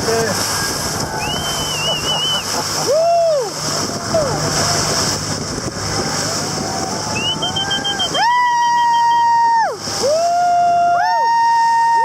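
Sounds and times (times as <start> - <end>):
boat engine humming: 0.0 - 12.0
water noise: 0.0 - 12.0
people whooping: 0.6 - 5.0, 6.1 - 12.0.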